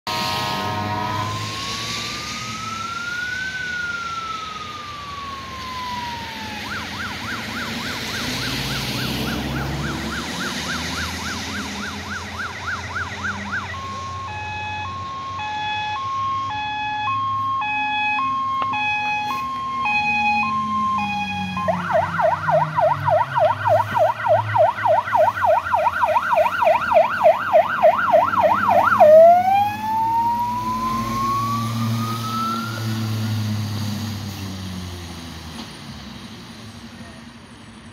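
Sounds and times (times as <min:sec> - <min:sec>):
fire engine siren: 0:00.0 - 0:37.4
truck engine rumble: 0:00.0 - 0:37.9.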